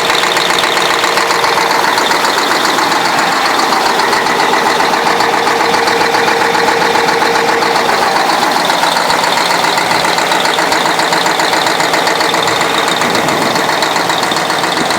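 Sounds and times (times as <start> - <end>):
diesel engine idling with knock: 0.0 - 14.9.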